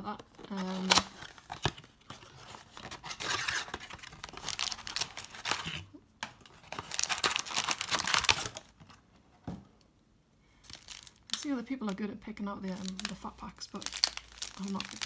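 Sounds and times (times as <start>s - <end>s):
plastic wrappers crinkling: 0.0s - 8.9s, 10.6s - 15.0s.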